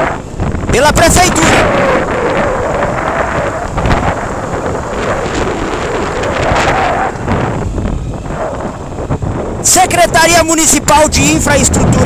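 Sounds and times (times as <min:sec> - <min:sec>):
drone propellers whining: 0:00.0 - 0:12.0
wind buffeting microphone: 0:00.0 - 0:12.0.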